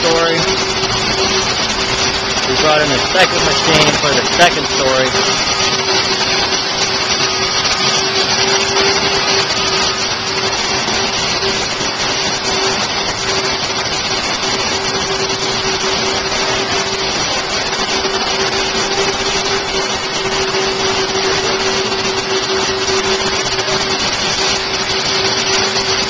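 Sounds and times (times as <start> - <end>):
constant hum: 0.0 - 26.0
electric blower motors whirring: 0.0 - 26.0.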